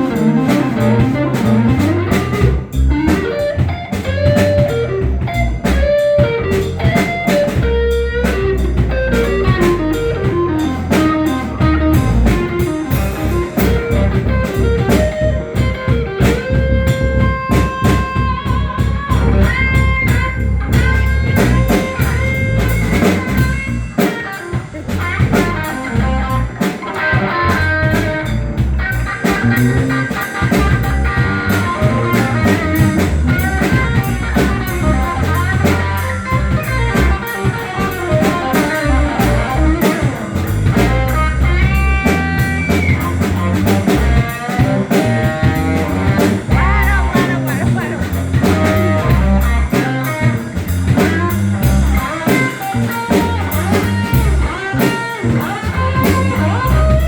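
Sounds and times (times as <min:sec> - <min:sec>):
bass: 0:00.0 - 0:57.0
drum kit: 0:00.0 - 0:57.0
electric guitar lead with bending notes: 0:00.0 - 0:57.0.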